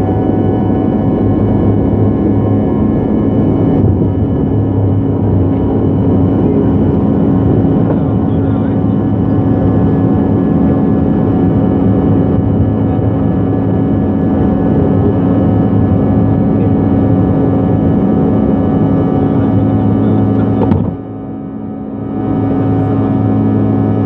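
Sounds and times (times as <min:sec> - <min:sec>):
airliner engine drone in cabin: 0:00.0 - 0:24.0.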